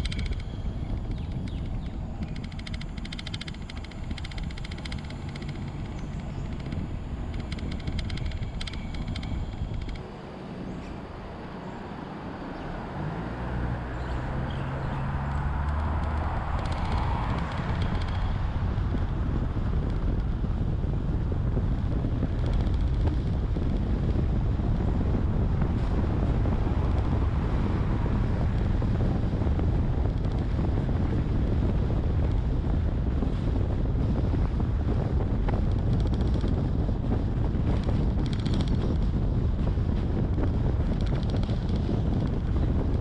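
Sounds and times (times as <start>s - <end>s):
car wind and road noise: 0.0s - 43.0s
wind buffeting microphone: 0.0s - 43.0s.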